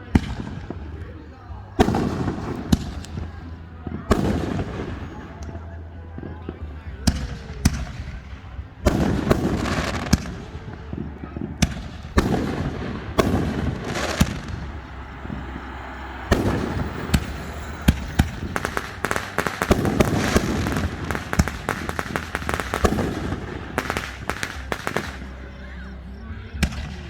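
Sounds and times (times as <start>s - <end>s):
fireworks bangs and crackles: 0.0s - 27.0s
fireworks rumbling wash: 0.0s - 27.0s.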